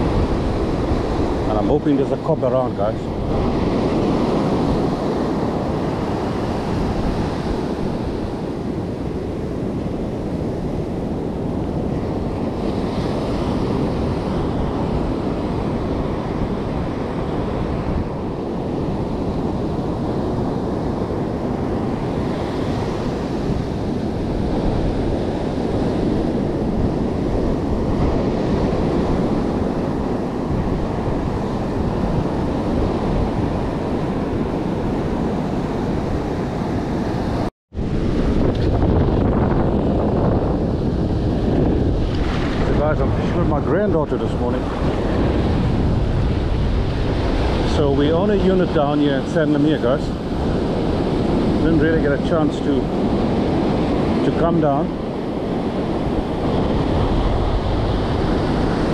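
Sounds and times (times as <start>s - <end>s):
ocean surf breaking: 0.0s - 58.9s
wind buffeting microphone: 0.0s - 58.9s.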